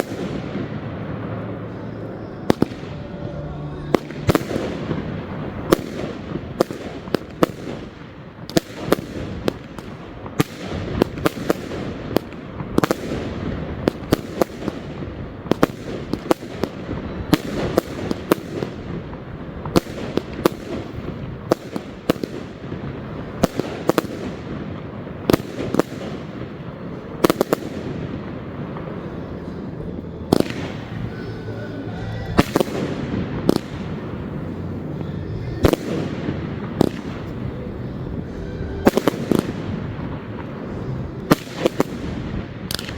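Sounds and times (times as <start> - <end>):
fireworks bangs: 0.0 - 42.9
fireworks crackling: 0.0 - 42.9.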